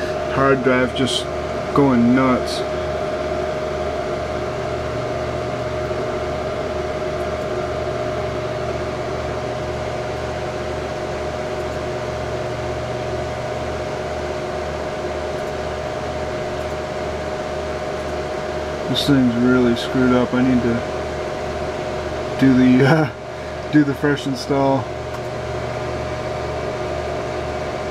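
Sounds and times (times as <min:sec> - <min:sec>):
computer fans whirring hum: 0:00.0 - 0:27.9.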